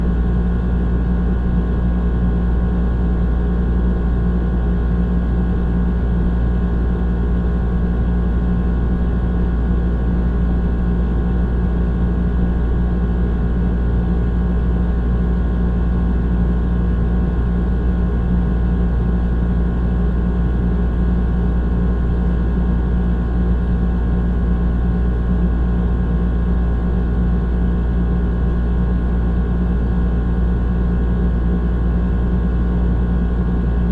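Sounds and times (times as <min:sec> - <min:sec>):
compressor hum: 0:00.0 - 0:33.9.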